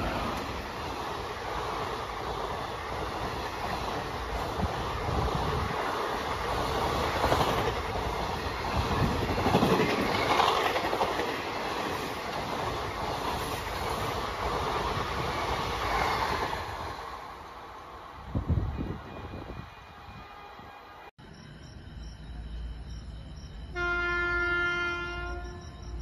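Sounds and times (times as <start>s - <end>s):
train rushing past: 0.0s - 26.0s.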